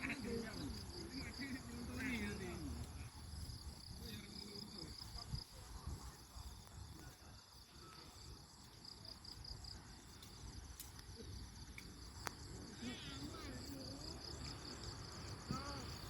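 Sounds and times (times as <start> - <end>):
insects chirping in trills: 0.0 - 16.0.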